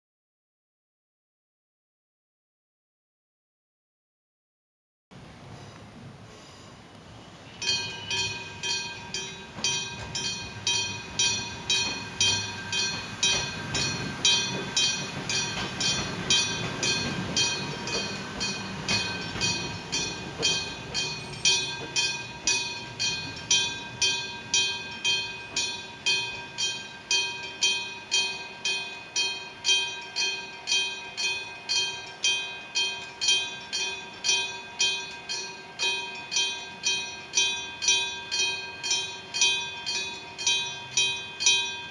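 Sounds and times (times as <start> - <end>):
passing train rumble: 5.1 - 41.9
level crossing bell striking: 7.6 - 41.9.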